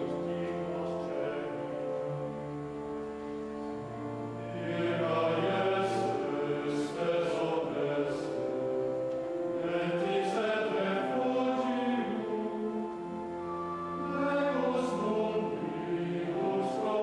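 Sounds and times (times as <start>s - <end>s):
men's choir singing plainchant: 0.0s - 2.5s, 3.6s - 17.0s.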